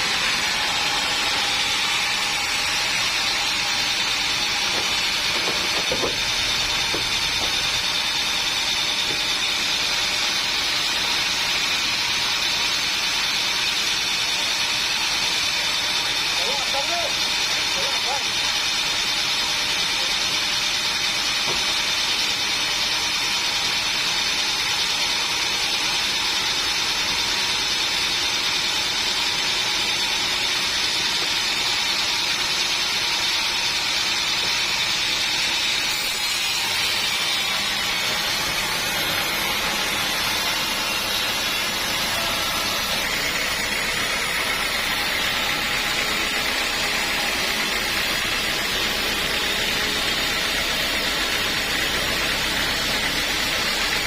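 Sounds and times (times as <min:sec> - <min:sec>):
sawmill saw whining: 0:00.0 - 0:54.0.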